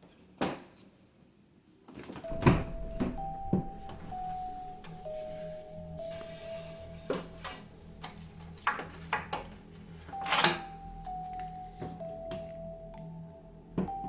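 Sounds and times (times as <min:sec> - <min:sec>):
slow music with held notes: 0:02.2 - 0:14.0.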